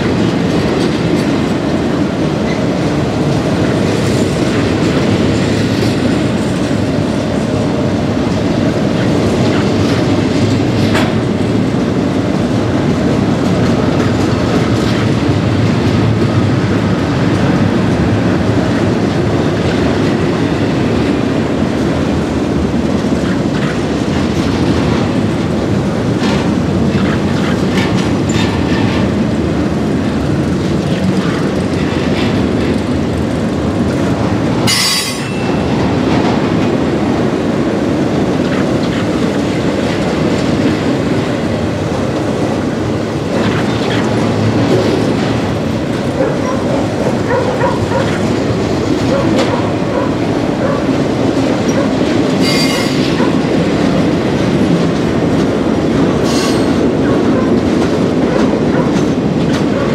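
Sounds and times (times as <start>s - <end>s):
freight train rumbling past: 0.0s - 59.9s
wheels clattering over rails: 0.0s - 59.9s.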